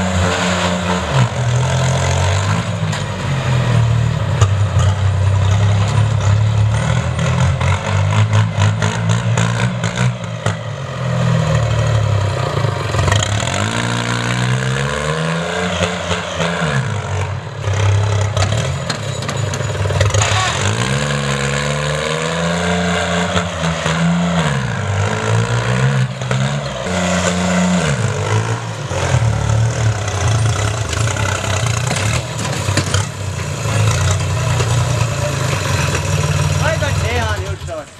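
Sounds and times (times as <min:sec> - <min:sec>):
tractor diesel engine running: 0:00.8 - 0:14.6, 0:16.2 - 0:21.7, 0:26.5 - 0:37.9.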